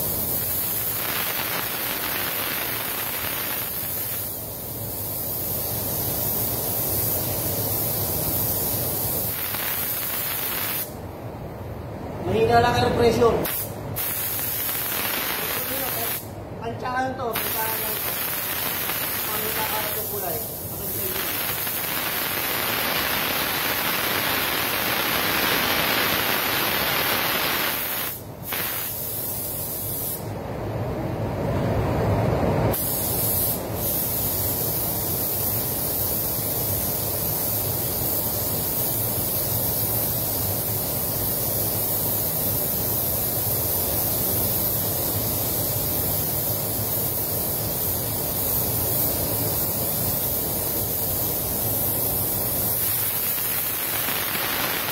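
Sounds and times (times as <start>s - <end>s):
paint spray gun hissing: 0.0s - 11.0s, 13.4s - 16.3s, 17.3s - 30.3s, 32.7s - 54.9s.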